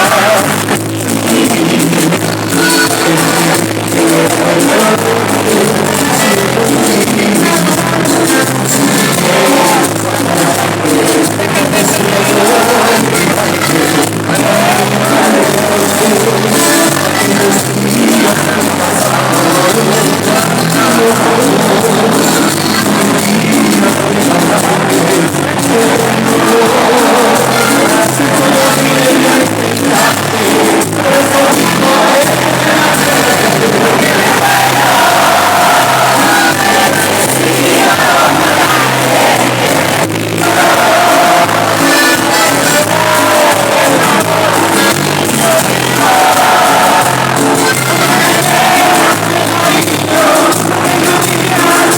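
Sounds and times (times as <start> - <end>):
crowd shouting and cheering: 0.0 - 51.9
lead singer: 0.0 - 51.9
live band music: 0.0 - 51.9.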